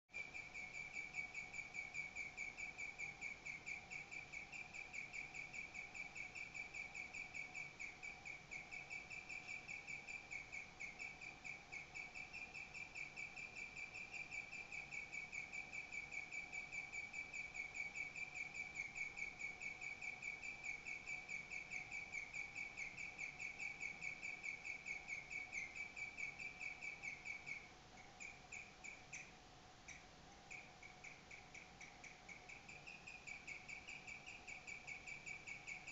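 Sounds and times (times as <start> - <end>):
pet animal chirping: 0.1 - 35.9.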